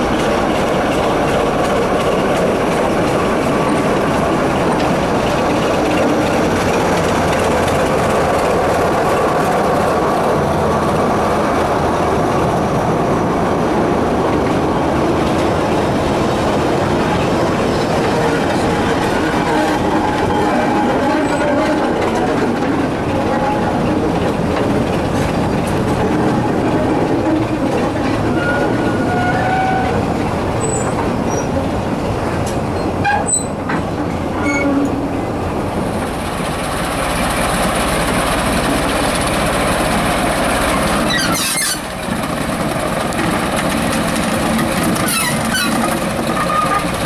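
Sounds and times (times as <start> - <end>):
diesel train running on rails: 0.0 - 47.0.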